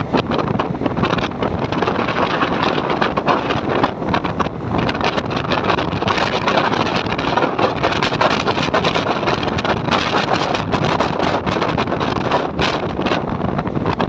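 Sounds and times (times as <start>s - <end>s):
train wheels rumbling on rails: 0.0s - 14.0s
wind buffeting microphone: 0.0s - 14.0s.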